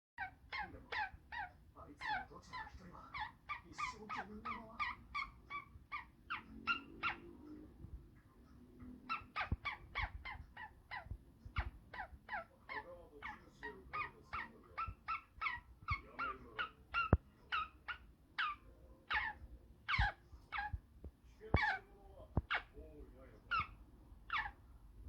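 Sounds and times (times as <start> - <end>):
parrot squawking: 0.2 - 7.6, 8.9 - 20.8, 21.4 - 24.6.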